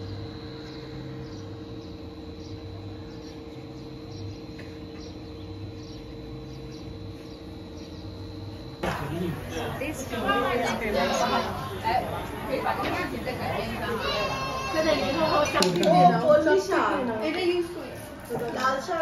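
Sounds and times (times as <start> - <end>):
faint high whine: 0.0 - 19.0
steady hum: 0.0 - 19.0.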